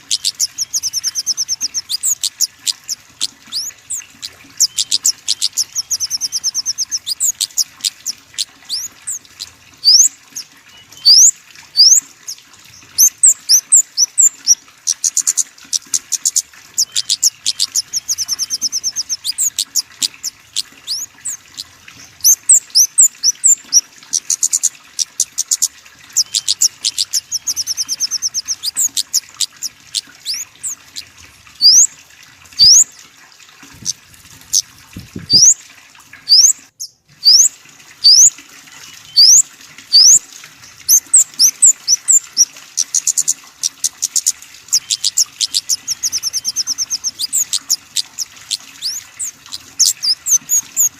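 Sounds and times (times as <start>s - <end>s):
small songbird calling: 0.0s - 31.9s, 32.6s - 32.9s, 33.8s - 35.6s, 36.3s - 50.9s.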